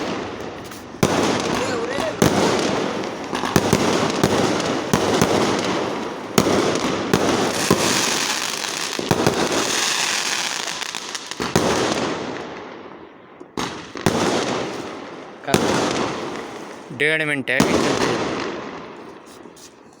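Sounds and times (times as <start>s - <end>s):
fireworks crackling: 0.0s - 12.9s, 13.6s - 20.0s.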